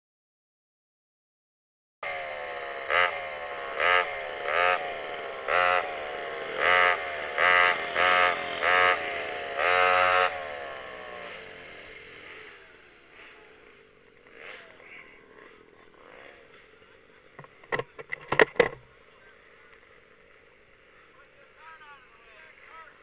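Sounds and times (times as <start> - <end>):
two-stroke engine revving: 2.0 - 23.0.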